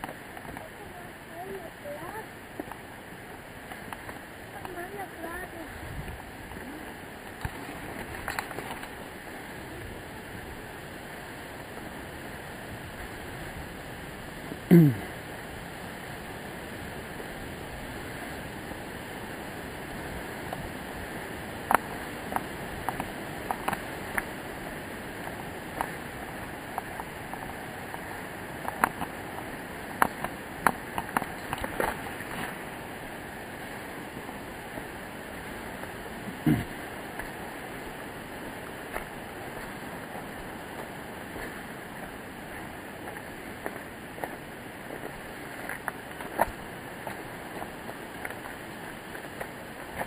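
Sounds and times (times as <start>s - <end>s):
distant waterfall rushing: 0.0s - 50.0s.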